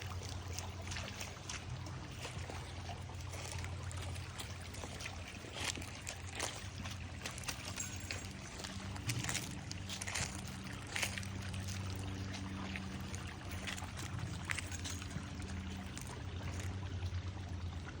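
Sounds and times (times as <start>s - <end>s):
steady low hum: 0.0s - 18.0s
water splashing and trickling: 0.0s - 18.0s.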